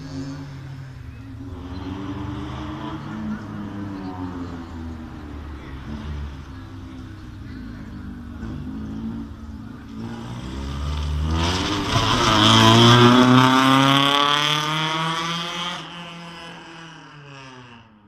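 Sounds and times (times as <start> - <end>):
race car engine revving past: 0.0 - 18.0.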